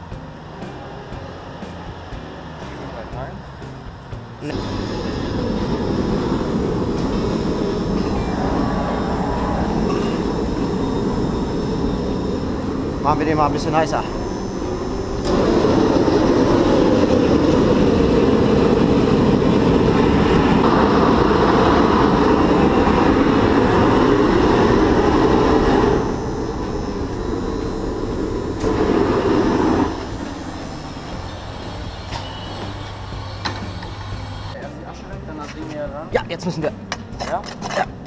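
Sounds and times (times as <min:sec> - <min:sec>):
furnace air blast roaring: 0:00.0 - 0:35.4.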